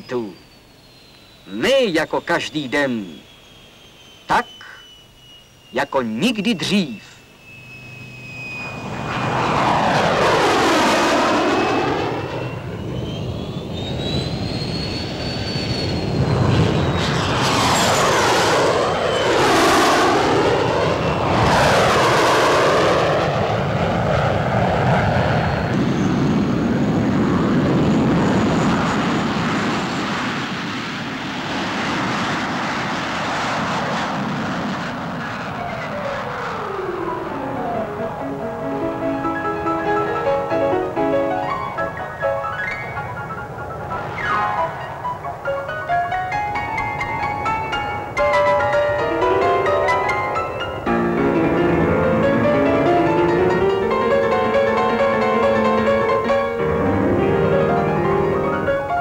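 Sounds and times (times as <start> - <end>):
high engine whine: 0.0 - 59.0
jet engines passing overhead: 0.0 - 59.0.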